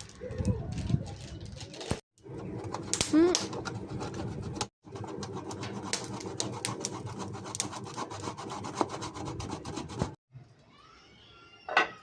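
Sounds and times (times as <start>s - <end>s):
rasping scraping with clicks: 0.0s - 10.2s.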